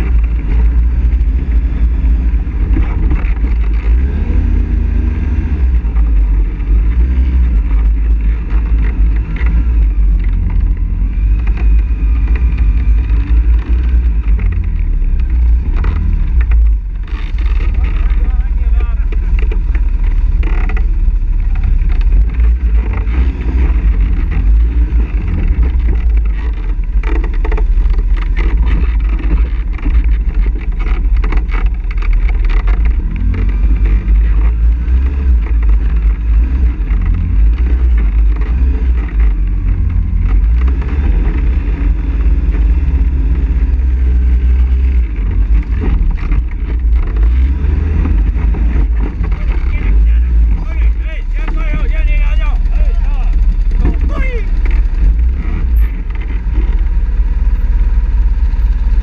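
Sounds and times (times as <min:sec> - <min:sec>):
knocks and rattles: 0:00.0 - 0:57.5
quad engine rumbling: 0:00.0 - 0:59.0.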